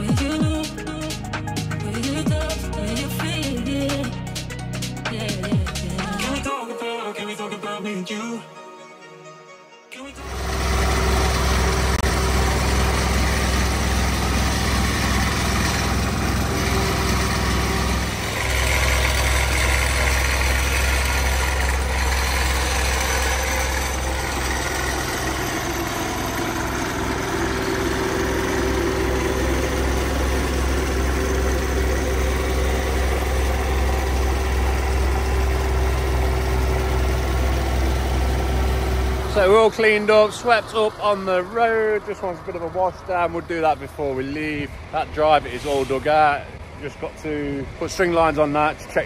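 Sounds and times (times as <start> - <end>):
machinery engine humming: 0.0 - 6.6, 10.2 - 49.0.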